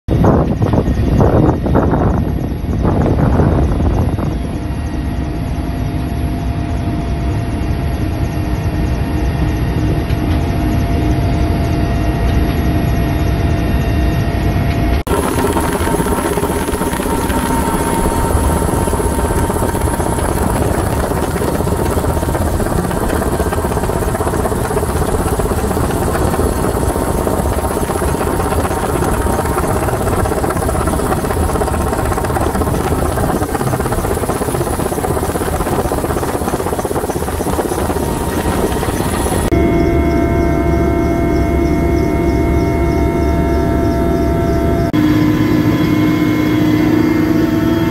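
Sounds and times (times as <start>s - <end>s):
helicopter cabin drone: 0.1s - 47.9s.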